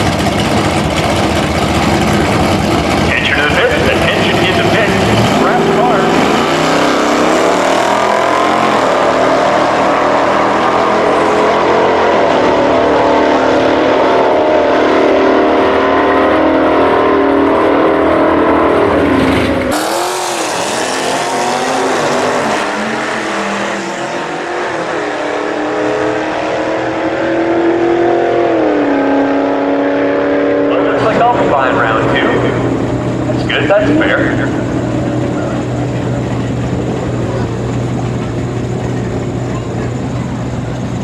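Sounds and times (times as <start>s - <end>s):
car engines idling and revving: 0.0s - 41.0s
cars accelerating at full throttle: 0.0s - 41.0s.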